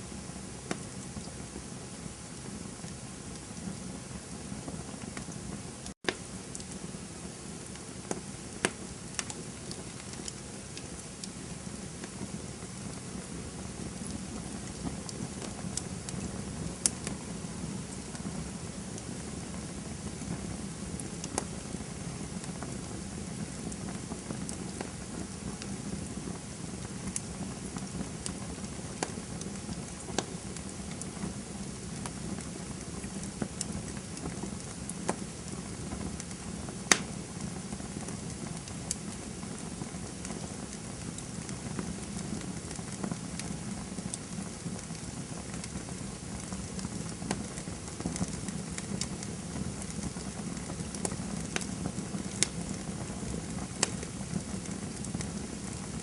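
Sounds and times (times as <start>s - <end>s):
burning wood crackling and popping: 0.0s - 56.0s
campfire flames hissing: 0.0s - 56.0s.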